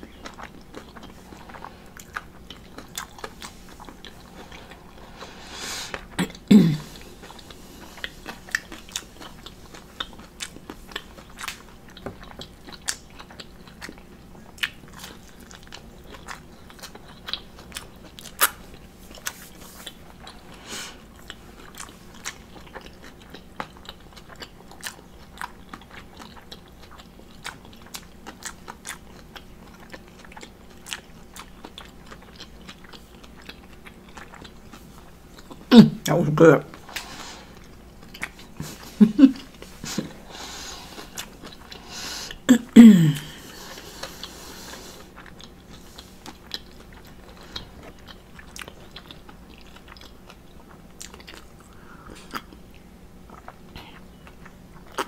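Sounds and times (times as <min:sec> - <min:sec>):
crunchy chewing: 0:00.0 - 0:35.7, 0:36.7 - 0:42.5, 0:43.4 - 0:55.0.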